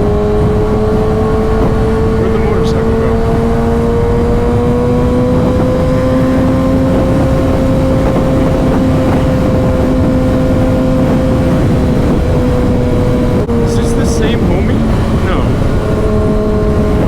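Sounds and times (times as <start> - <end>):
motorcycle engine cruising: 0.0 - 17.0
wind noise rushing: 0.0 - 17.0.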